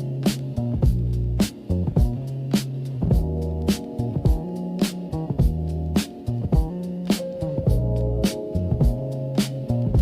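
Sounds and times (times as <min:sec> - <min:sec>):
funk music with drums and bass: 0:00.0 - 0:10.0.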